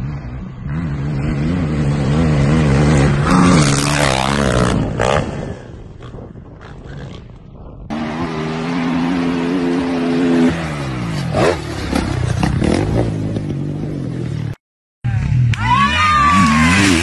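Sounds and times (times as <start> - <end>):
dirt bike engine revving: 0.0 - 5.6, 7.9 - 14.4, 15.2 - 17.0.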